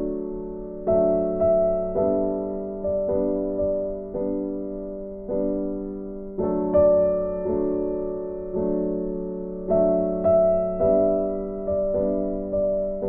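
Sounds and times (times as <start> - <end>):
gentle piano chords: 0.0 - 13.0.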